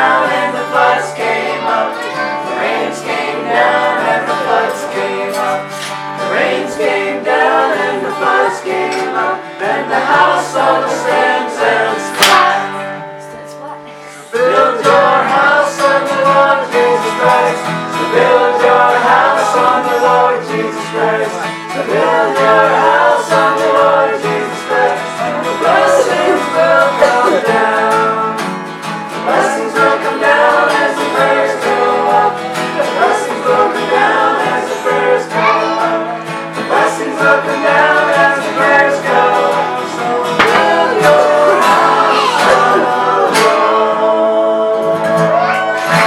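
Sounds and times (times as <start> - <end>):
voices singing: 0.0 - 13.6, 14.2 - 46.0
plucked guitar: 0.0 - 46.0.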